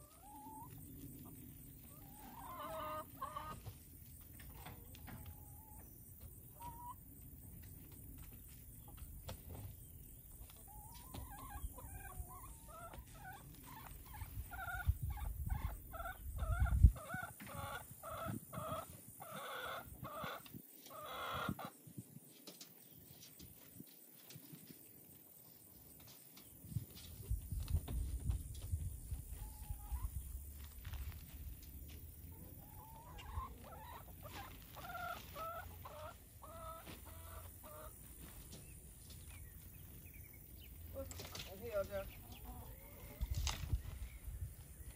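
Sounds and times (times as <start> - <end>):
hens clucking: 0.0 - 44.9.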